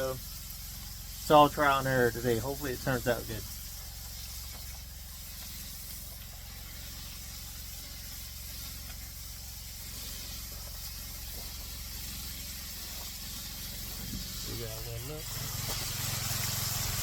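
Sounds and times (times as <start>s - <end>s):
meat sizzling: 0.0s - 17.0s.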